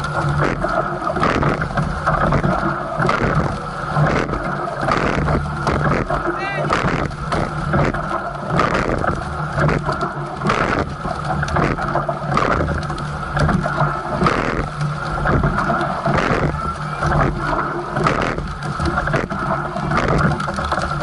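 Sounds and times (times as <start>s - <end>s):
oars splashing and knocking: 0.0s - 21.0s
water rushing along hull: 0.0s - 21.0s.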